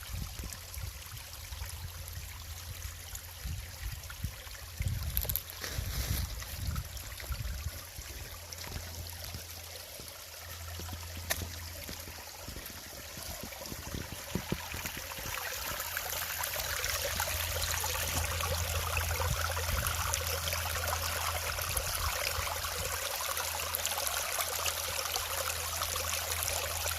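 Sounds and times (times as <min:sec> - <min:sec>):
stream water trickling: 0:00.0 - 0:26.9.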